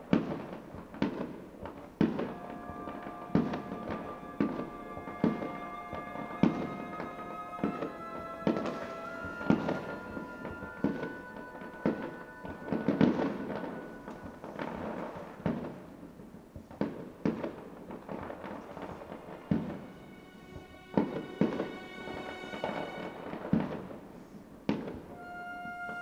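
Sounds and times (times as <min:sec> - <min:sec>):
fireworks bursting: 0:00.0 - 0:26.0
music with long held tones: 0:00.0 - 0:26.0.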